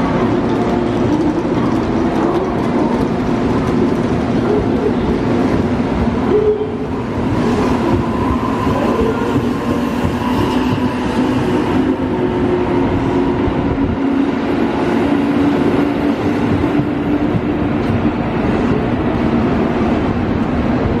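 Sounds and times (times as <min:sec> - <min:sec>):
electric train hum: 0:00.0 - 0:21.0
train wheels rumbling on rails: 0:00.0 - 0:21.0.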